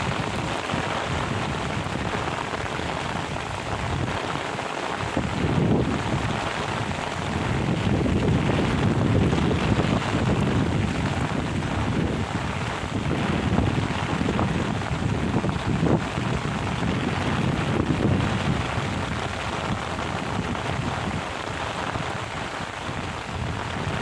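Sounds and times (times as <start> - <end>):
heavy rain: 0.0 - 24.0
wind gusting over microphone: 0.0 - 24.0.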